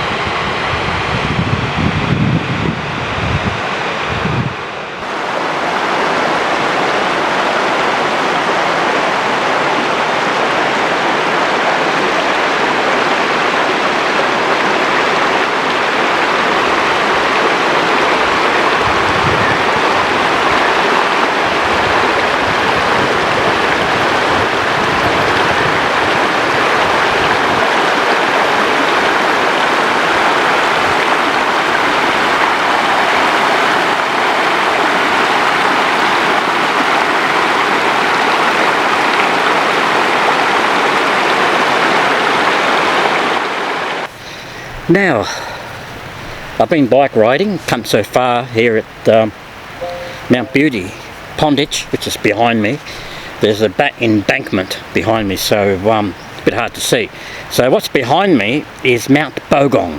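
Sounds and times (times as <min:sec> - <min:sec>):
river water rushing: 0:00.0 - 0:01.9, 0:02.5 - 0:46.6, 0:48.8 - 0:51.4, 0:52.4 - 0:53.5.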